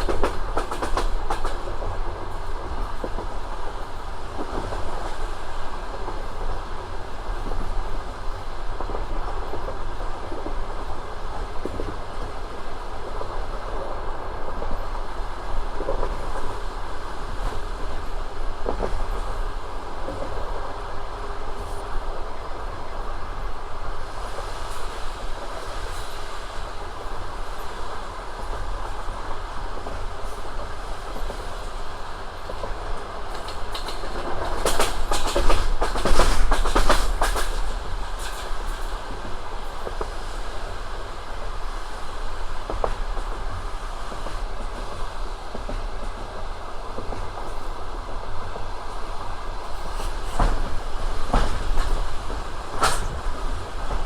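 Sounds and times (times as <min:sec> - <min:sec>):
train carriage rumbling: 0:00.0 - 0:54.0.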